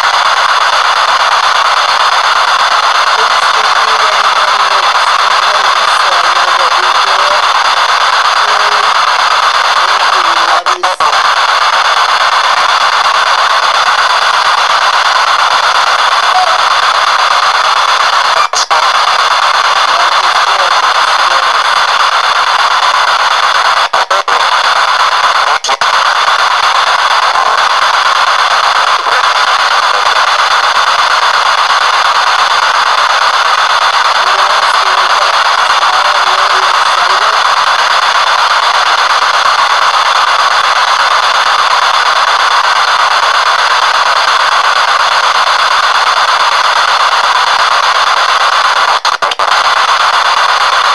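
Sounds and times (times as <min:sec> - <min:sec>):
radio static hissing: 0:00.0 - 0:50.9.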